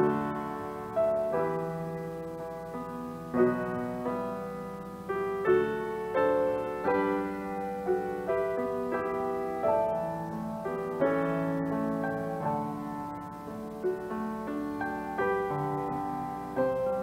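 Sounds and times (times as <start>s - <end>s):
slow gentle grand piano: 0.0s - 17.0s.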